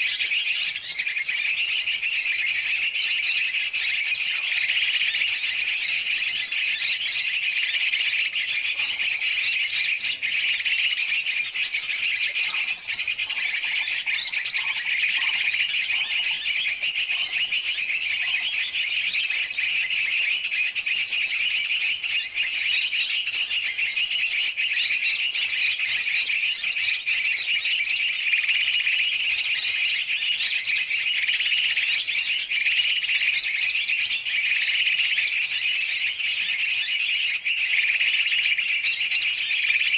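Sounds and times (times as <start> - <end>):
chorus of birds calling: 0.0 - 39.9.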